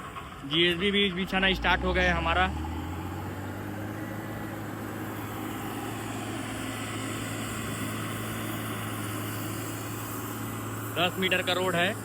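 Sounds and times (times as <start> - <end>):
diesel engine of heavy machinery: 0.0 - 12.0.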